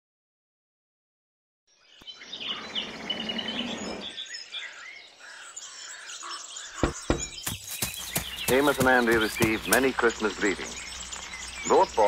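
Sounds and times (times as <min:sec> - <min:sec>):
small birds chirping: 0:01.7 - 0:12.0.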